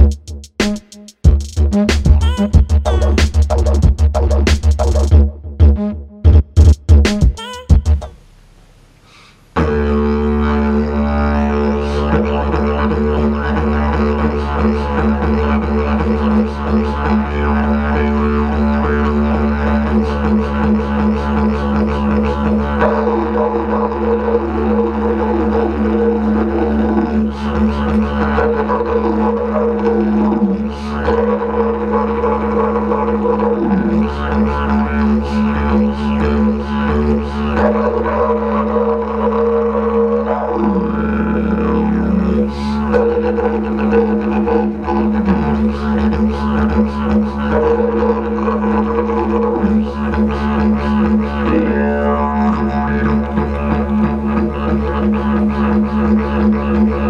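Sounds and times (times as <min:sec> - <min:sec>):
didgeridoo drone: 0:01.3 - 0:08.2, 0:09.6 - 0:57.0.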